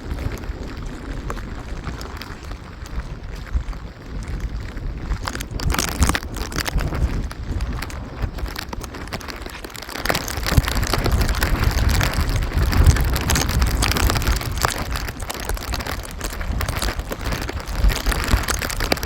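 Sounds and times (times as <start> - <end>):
rain pattering: 0.0 - 19.0
wind buffeting microphone: 0.0 - 19.0.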